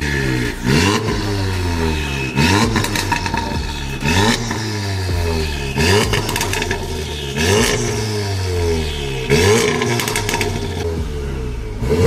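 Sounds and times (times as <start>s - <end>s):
car engine revving: 0.0s - 12.0s
exhaust crackles: 0.0s - 12.0s.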